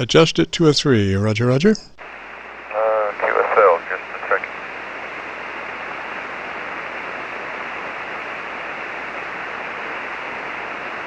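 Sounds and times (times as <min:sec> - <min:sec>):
radio receiver hiss: 0:02.0 - 0:11.0.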